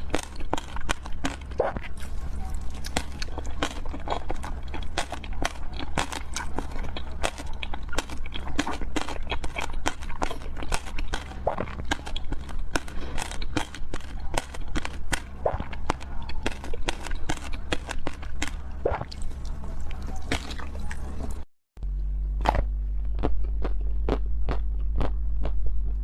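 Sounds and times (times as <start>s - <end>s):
wet chewing mouth clicks: 0.0s - 21.0s, 22.4s - 26.0s
steady low hum: 0.0s - 26.0s.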